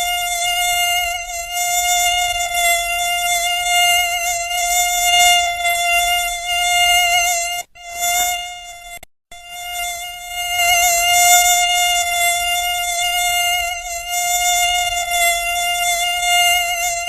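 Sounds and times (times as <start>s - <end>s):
mosquito wingbeat whine: 0.0s - 17.0s.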